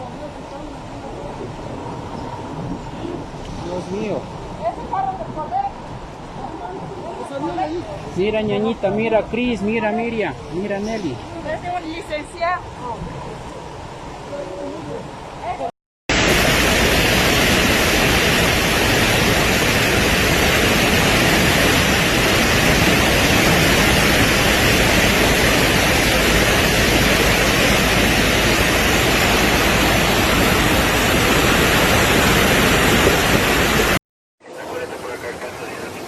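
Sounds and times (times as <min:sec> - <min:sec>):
floodwater rushing: 0:00.0 - 0:36.0.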